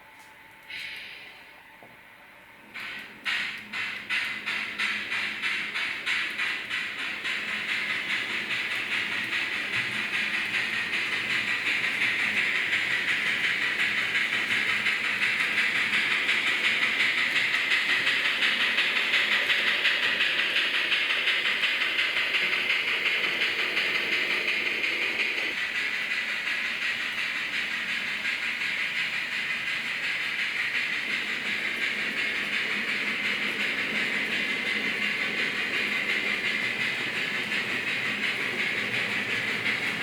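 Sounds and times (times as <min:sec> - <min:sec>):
model steam locomotive chuffing: 0:02.6 - 0:40.0
small wheels rattling on track: 0:02.8 - 0:40.0.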